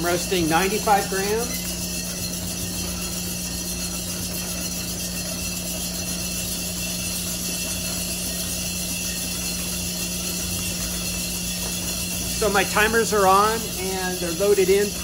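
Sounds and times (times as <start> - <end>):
coffee roaster mechanical drone: 0.0 - 15.0.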